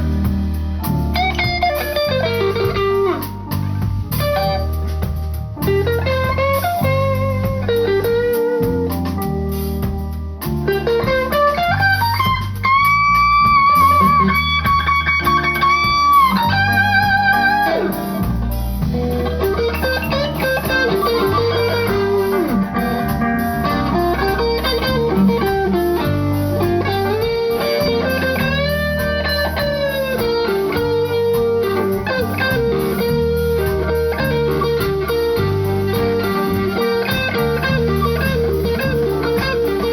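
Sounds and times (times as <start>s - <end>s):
blues band playing: 0.0s - 39.9s.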